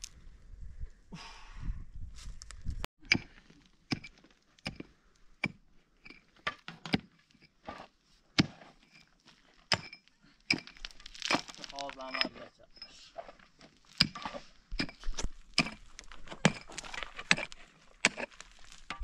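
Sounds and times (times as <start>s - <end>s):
pick striking stony ground: 3.0s - 19.0s.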